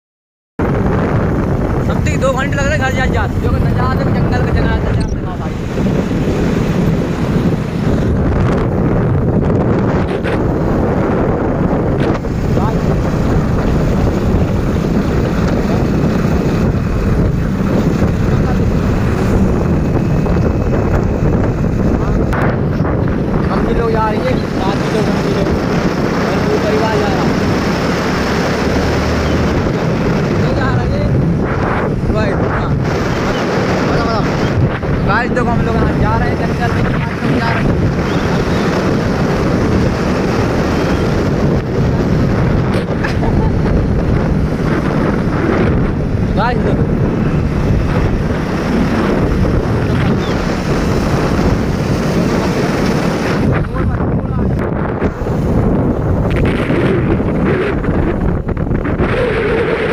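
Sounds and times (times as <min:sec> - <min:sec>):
vehicle running noise: 0:00.6 - 0:59.9
wind buffeting microphone: 0:00.6 - 0:59.9.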